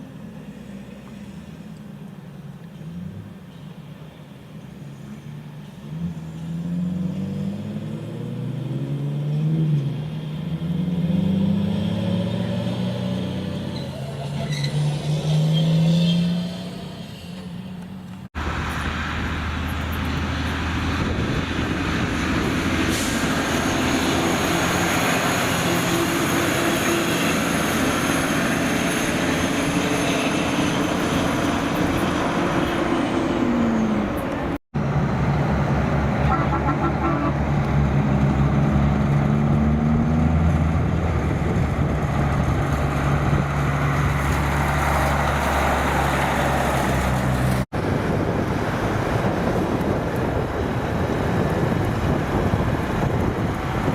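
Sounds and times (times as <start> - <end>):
engine and tyre drone: 0.0 - 53.9
diesel truck shifting gears: 5.1 - 53.9.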